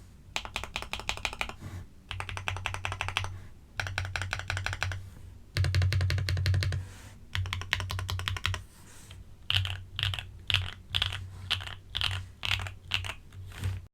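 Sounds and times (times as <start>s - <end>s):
mechanical keyboard typing: 0.4s - 5.0s, 5.6s - 8.6s, 9.5s - 13.8s.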